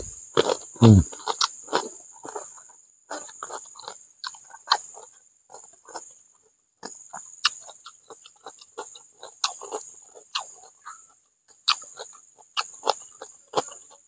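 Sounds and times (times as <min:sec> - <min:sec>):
chewing and lip-smacking: 0:00.0 - 0:06.2, 0:06.8 - 0:14.0.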